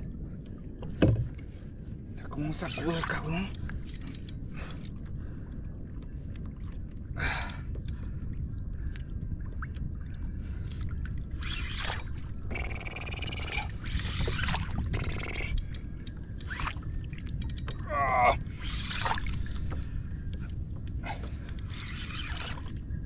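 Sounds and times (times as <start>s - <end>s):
low rumble of water and wind: 0.0s - 23.0s
water splashing around kayak: 0.0s - 23.0s.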